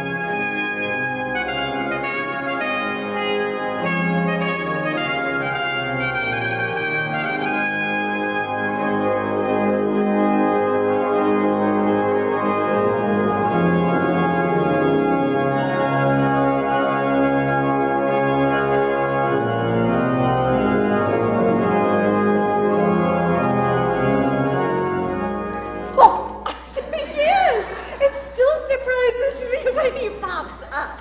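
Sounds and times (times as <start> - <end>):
brass ensemble playing chords: 0.0 - 31.0.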